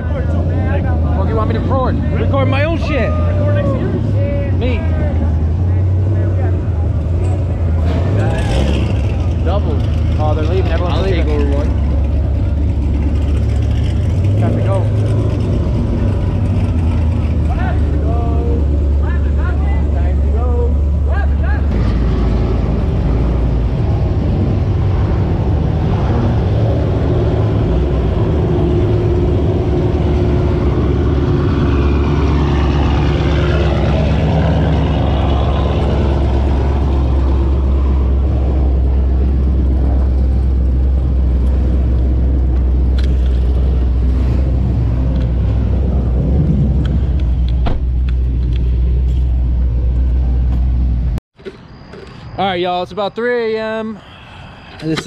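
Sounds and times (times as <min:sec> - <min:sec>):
car engines rumbling: 0:00.0 - 0:55.0.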